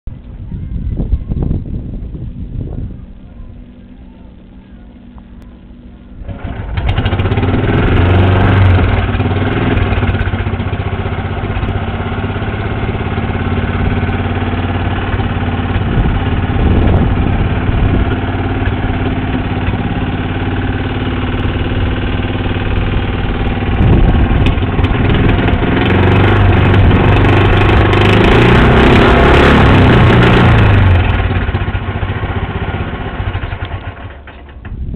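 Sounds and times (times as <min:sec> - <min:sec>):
lawn mower engine running: 0:01.9 - 0:34.9.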